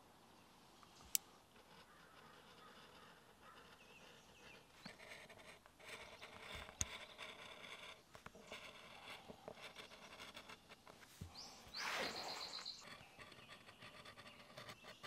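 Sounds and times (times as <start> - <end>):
knife cutting leather: 1.8 - 15.0.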